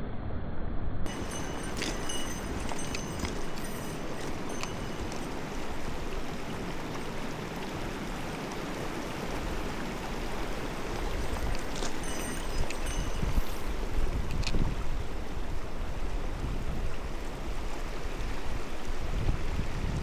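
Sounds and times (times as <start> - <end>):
stream running over rocks: 1.1 - 20.0.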